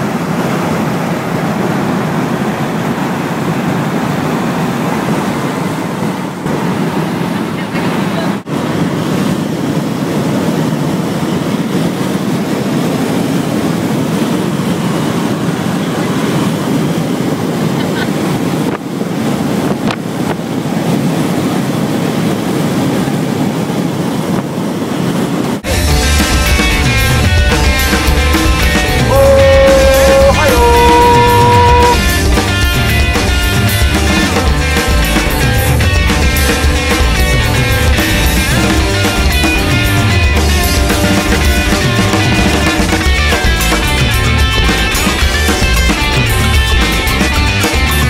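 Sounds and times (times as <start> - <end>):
road noise: 0.0 - 48.0
wind rushing: 0.0 - 48.0.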